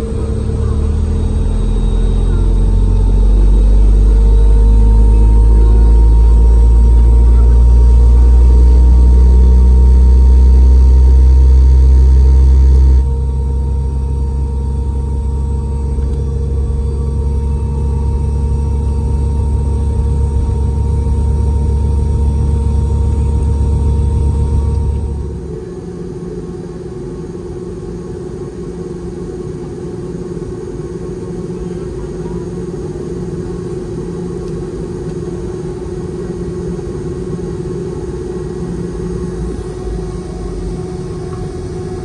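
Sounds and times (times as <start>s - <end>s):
jet engine cabin rumble: 0.0s - 42.0s
steady hum: 0.0s - 42.0s.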